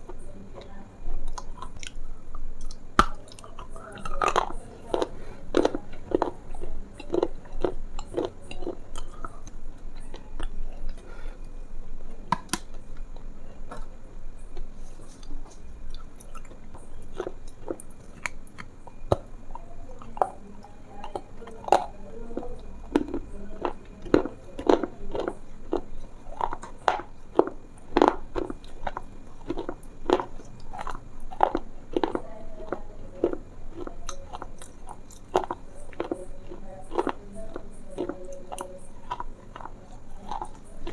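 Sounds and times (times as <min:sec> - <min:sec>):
crunchy chewing and biting: 0:00.0 - 0:40.9.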